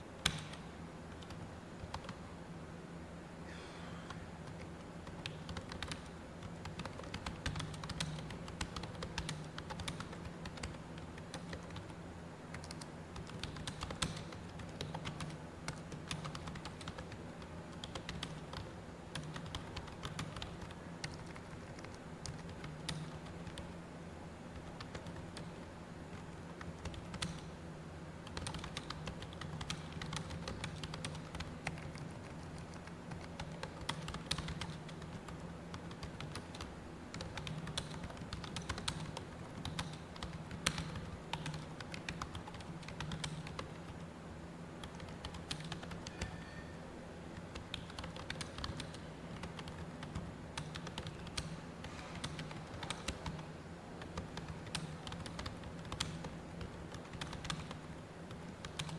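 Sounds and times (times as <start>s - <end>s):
steady low hum: 0.0s - 58.9s
fast typing on keyboard: 0.2s - 2.2s, 4.4s - 23.8s, 24.5s - 27.6s, 28.2s - 44.1s, 44.8s - 46.4s, 47.3s - 58.9s.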